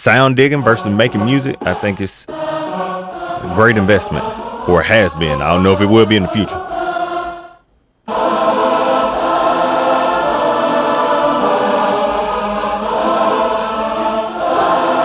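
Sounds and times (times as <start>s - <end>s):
sampled choir chords: 0.0s - 15.0s.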